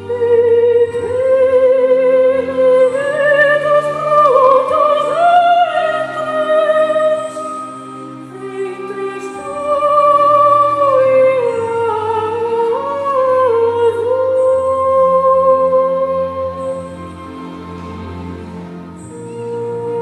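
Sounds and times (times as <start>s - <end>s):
instrumental accompaniment: 0.0s - 20.0s
operatic singing with vibrato: 0.0s - 20.0s.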